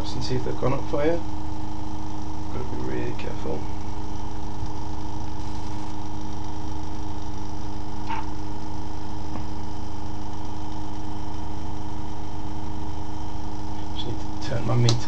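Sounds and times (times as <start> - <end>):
pulse motor hum: 0.0 - 15.0.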